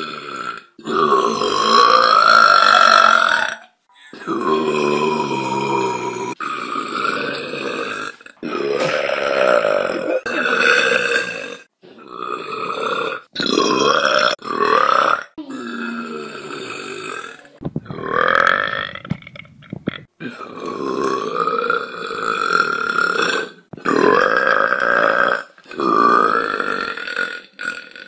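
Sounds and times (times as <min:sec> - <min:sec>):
woman burping loudly: 0:00.0 - 0:28.0.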